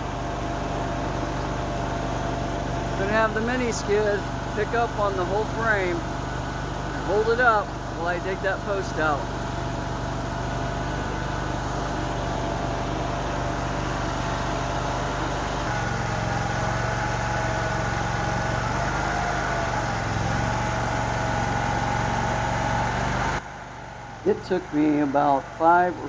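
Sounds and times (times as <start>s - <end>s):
skid steer engine running: 0.0s - 26.0s.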